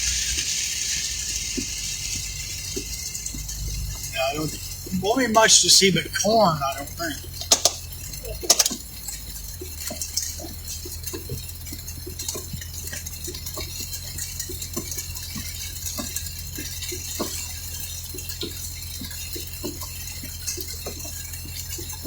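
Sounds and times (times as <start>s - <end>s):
rain tapping on car roof: 0.0s - 22.0s
vehicle running hum: 0.0s - 22.0s.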